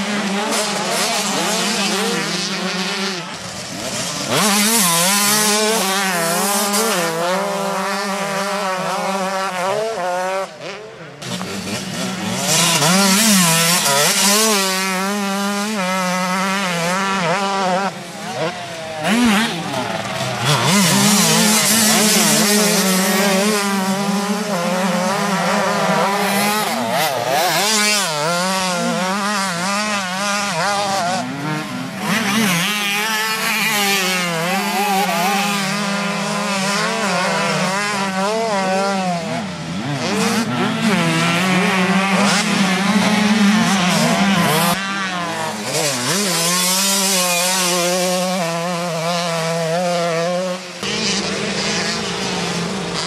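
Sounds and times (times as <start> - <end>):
motocross engines revving hard: 0.0 - 53.0.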